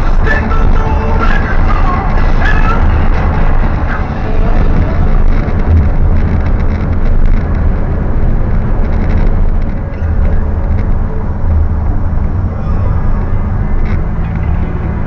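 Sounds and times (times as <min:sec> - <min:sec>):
minivan driving rumble: 0:00.0 - 0:15.0.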